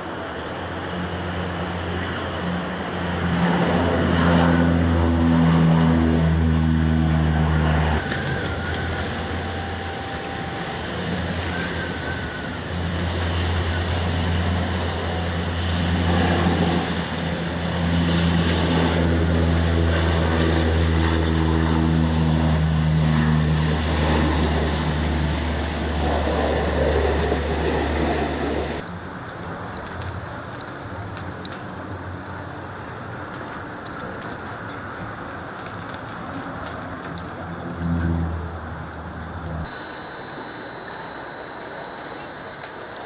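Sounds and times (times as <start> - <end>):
aircraft engines droning: 0.0 - 43.0.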